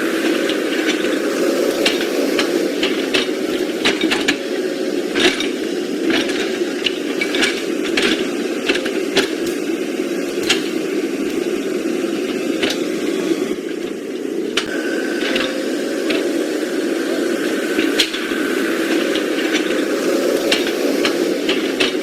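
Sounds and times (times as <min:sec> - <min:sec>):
toy truck motors whirring: 0:00.0 - 0:22.0.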